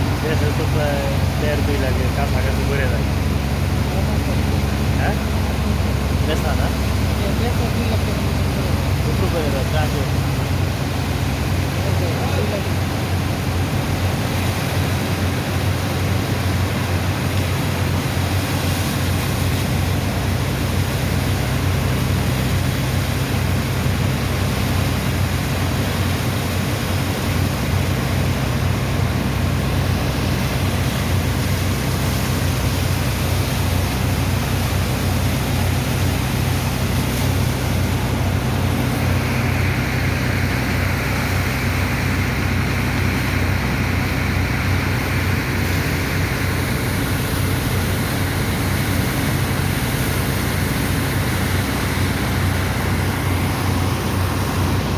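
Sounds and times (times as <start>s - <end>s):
diesel pump engine running: 0.0s - 54.9s
slurry rushing through pipe: 0.0s - 54.9s.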